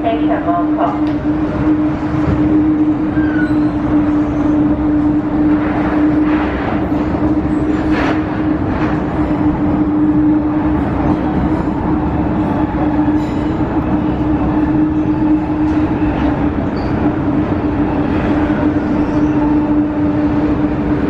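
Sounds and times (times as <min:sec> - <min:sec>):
electric train hum: 0:00.0 - 0:21.0
train rumble and rattle: 0:00.0 - 0:21.0.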